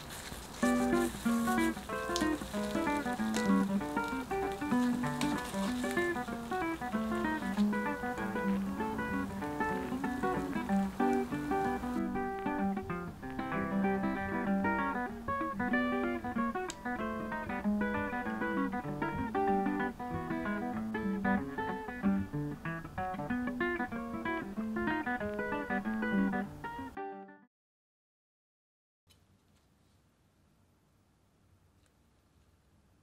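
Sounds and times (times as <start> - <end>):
acoustic guitar picked tune: 0.0 - 27.5.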